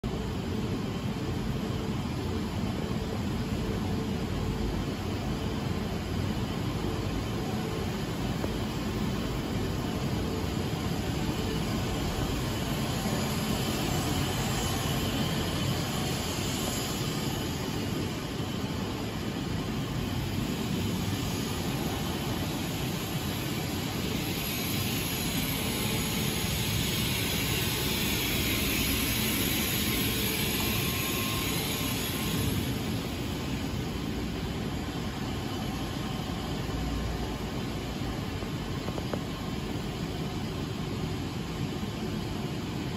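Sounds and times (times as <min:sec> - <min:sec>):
machinery rushing hum: 0:00.0 - 0:42.9
high hiss: 0:00.1 - 0:42.9.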